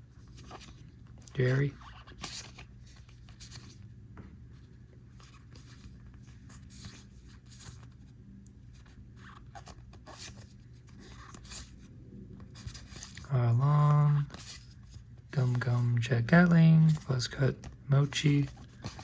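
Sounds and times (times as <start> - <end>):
steady low hum: 0.0 - 19.0
trading cards sliding and rustling: 0.1 - 3.9, 4.7 - 8.0, 8.7 - 19.0.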